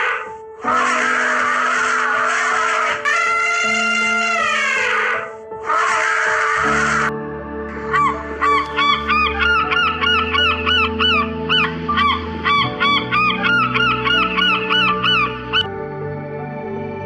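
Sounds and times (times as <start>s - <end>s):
high-pitched honk-like calls: 0.0s - 7.1s, 7.8s - 15.7s
background music of held chords: 0.0s - 17.0s.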